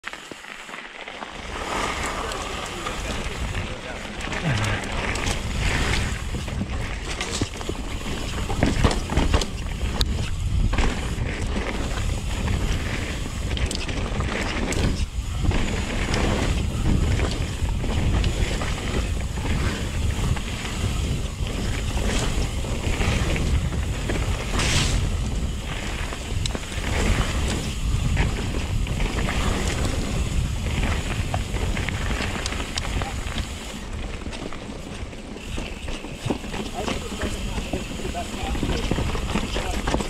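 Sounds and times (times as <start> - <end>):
bike rattling over roots and rocks: 0.0 - 40.0
tyres on loose dirt: 0.0 - 40.0
wind rumbling on microphone: 1.2 - 40.0.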